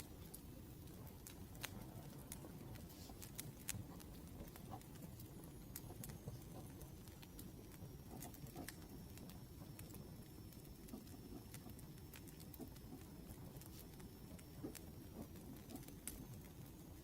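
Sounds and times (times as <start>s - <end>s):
faint high whine: 0.0s - 17.0s
wood fire crackling: 0.0s - 17.0s.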